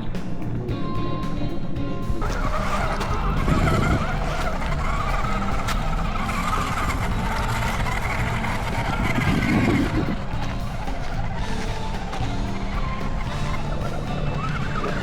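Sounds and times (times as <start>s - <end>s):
background music: 0.0s - 15.0s
steady background noise: 0.0s - 15.0s
electric motor and gears whining: 2.1s - 15.0s.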